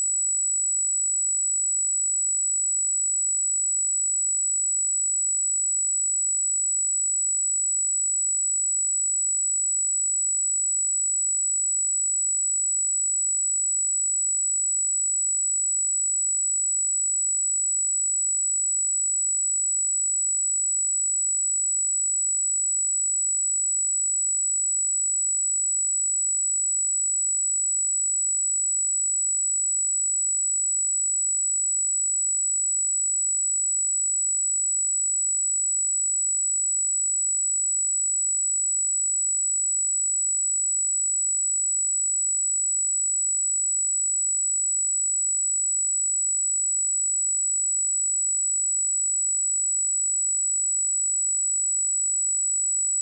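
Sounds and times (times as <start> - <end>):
high-pitched sine test tone: 0.0 - 53.0.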